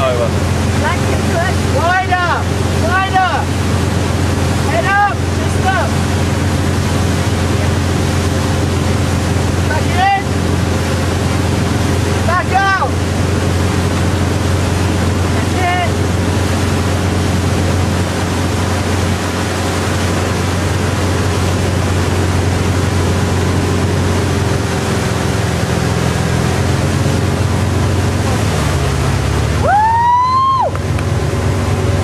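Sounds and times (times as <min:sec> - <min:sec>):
boat engine running: 0:00.0 - 0:32.0
water wash and wind noise: 0:00.0 - 0:32.0.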